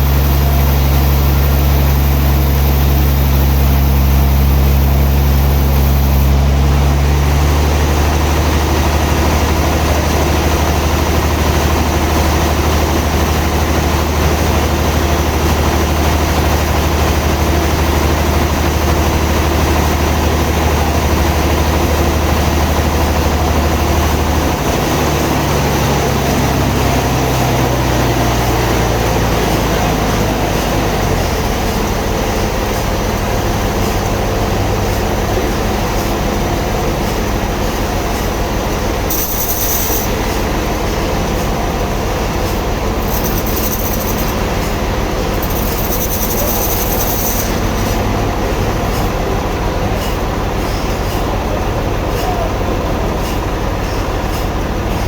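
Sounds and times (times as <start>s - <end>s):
broad machinery hiss: 0.0s - 52.4s
sawmill engine drone: 0.0s - 55.0s.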